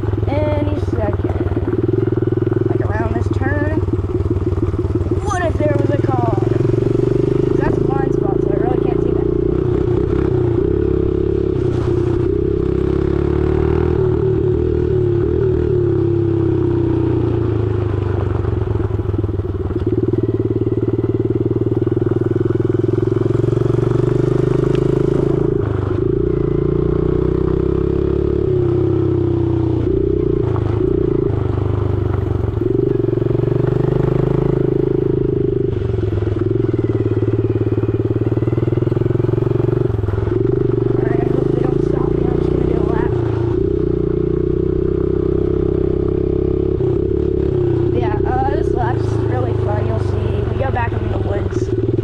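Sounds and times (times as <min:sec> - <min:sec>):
dirt bike engine revving: 0:00.0 - 0:17.7, 0:19.8 - 0:52.0.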